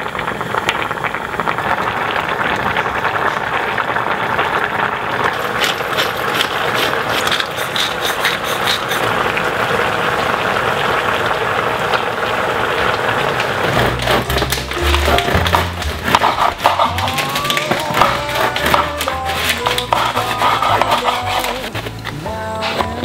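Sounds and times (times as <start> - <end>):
stew bubbling in a pot: 0.0 - 23.0.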